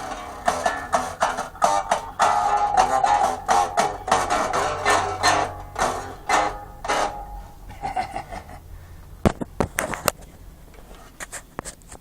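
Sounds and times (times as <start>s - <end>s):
guitar strum: 0.0s - 10.0s.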